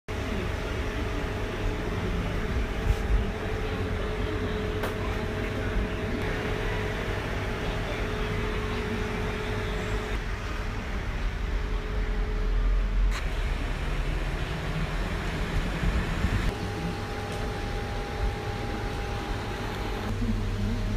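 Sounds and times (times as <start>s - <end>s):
machine hum and hiss: 0.1s - 20.9s.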